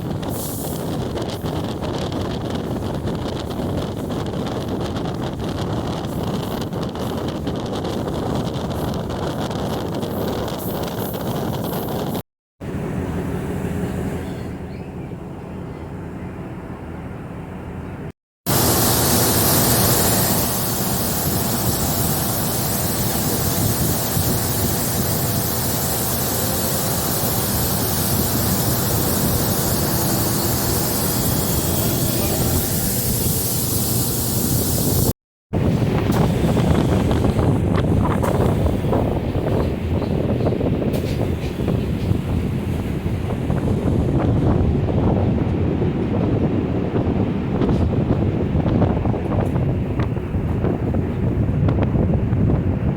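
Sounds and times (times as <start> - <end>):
wind buffeting microphone: 0.0 - 12.2, 18.0 - 52.9
train rumbling: 0.0 - 52.9.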